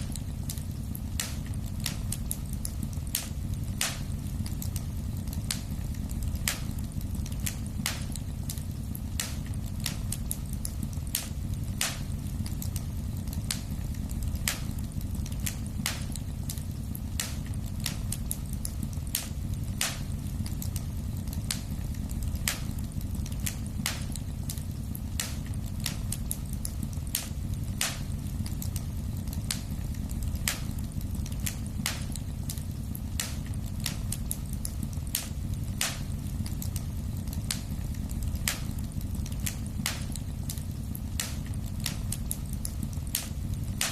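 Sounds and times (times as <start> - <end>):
burning logs crackling and popping: 0.0 - 43.9
low rumble of flames: 0.0 - 43.9.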